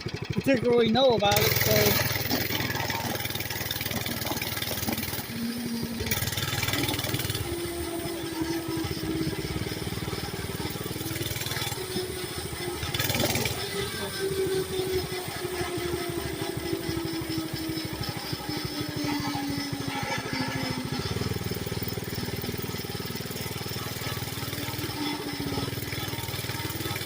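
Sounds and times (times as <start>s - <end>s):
small motorbike engine running: 0.0s - 27.0s.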